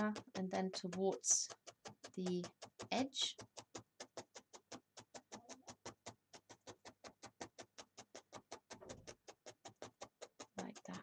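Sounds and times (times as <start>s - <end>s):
felting needle poking wool: 0.0s - 11.0s.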